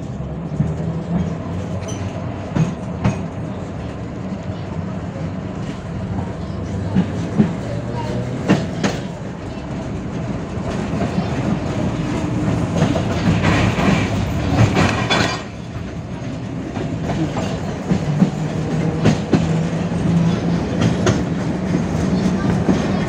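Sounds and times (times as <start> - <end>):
tram wheels rumbling on rail: 0.0 - 23.0
wheels clicking over rail joints: 0.0 - 23.0.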